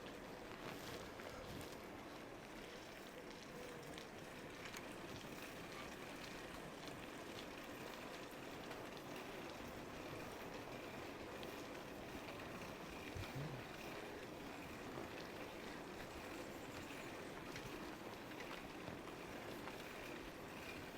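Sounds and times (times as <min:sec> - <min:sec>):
bicycle tyres rolling on road: 0:00.0 - 0:20.9.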